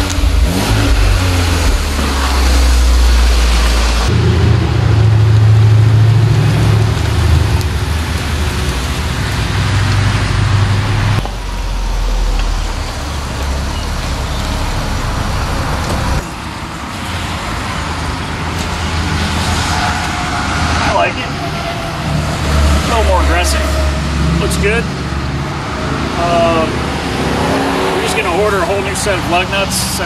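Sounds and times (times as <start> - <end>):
car engine droning: 0.0 - 30.0.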